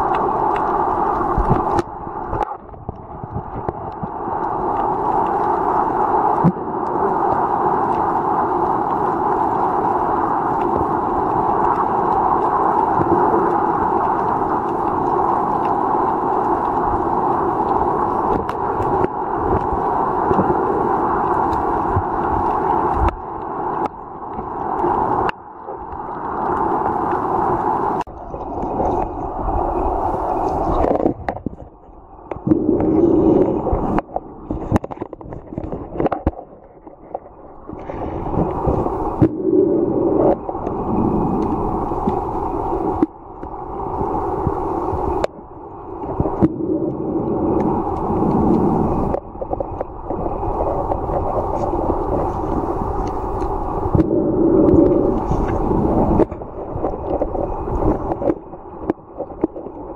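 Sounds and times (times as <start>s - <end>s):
muffled underwater rushing water: 0.0s - 59.9s.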